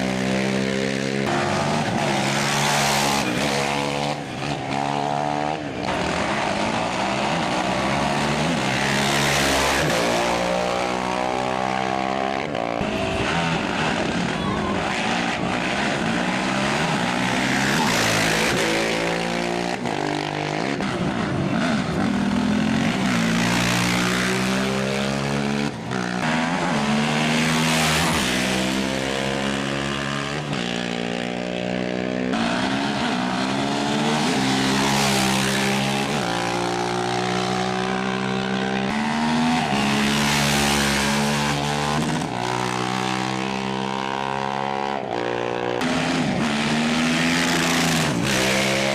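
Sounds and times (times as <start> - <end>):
motorcycle engines revving: 0.0 - 48.9
motorcycles passing by: 0.0 - 48.9.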